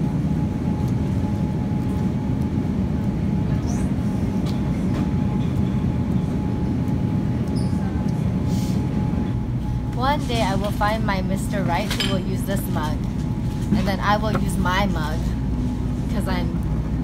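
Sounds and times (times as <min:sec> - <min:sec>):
faint constant hum: 0:00.0 - 0:17.0
store background rumble: 0:00.0 - 0:17.0.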